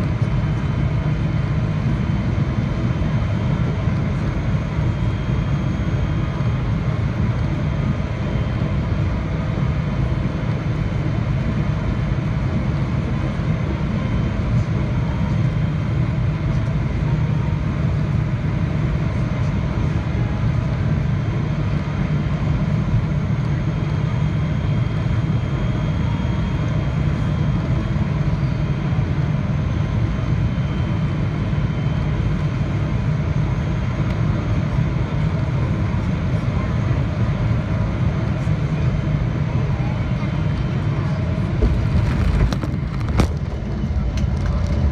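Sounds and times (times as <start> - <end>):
aircraft engine rumble in cabin: 0.0 - 44.9.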